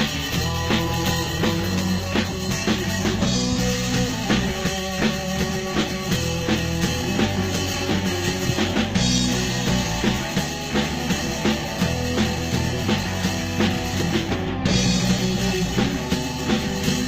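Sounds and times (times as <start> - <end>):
rock music over sound system: 0.0 - 17.0.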